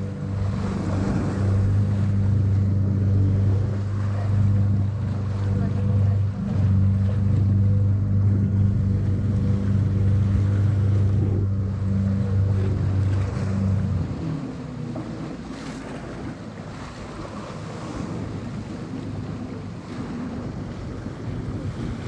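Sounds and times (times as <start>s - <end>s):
boat engine humming: 0.0s - 22.0s
water washing against hull: 0.0s - 22.0s
wind buffeting microphone: 0.0s - 22.0s.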